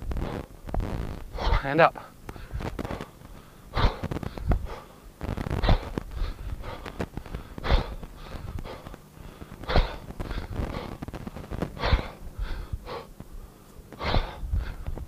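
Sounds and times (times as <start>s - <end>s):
man's sharp forceful breaths: 0.1s - 15.0s.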